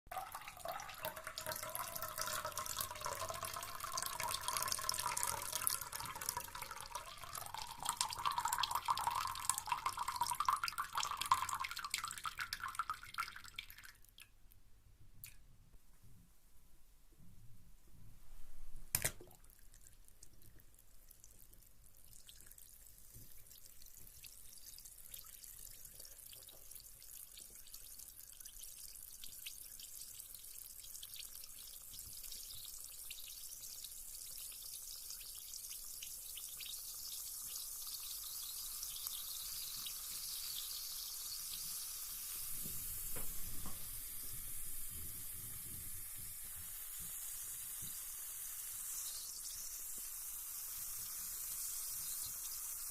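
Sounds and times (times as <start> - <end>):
bath bomb fizzing: 0.1 - 14.1, 19.0 - 52.9.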